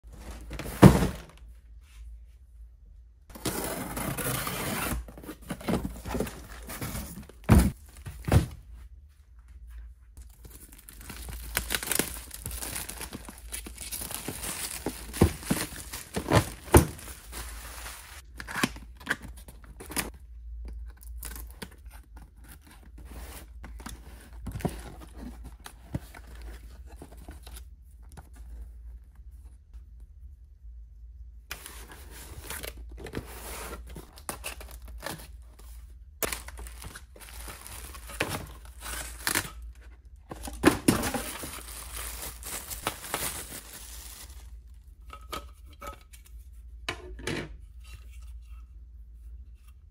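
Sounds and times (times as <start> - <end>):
cardboard and plastic rustling: 0.1 - 2.0, 3.3 - 20.2, 20.8 - 29.4, 31.5 - 45.0.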